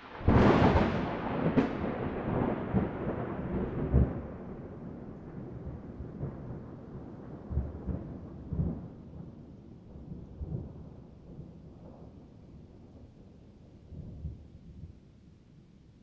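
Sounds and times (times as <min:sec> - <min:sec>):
thunder rumbling: 0:00.0 - 0:13.0.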